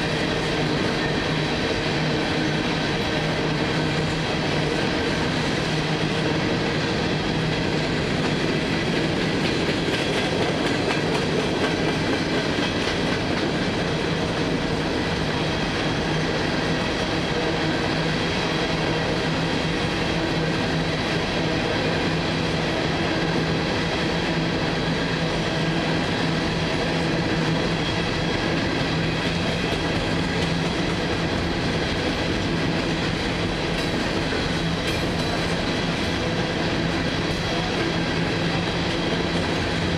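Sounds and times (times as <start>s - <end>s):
freight train cars rolling on rails: 0.0s - 39.9s.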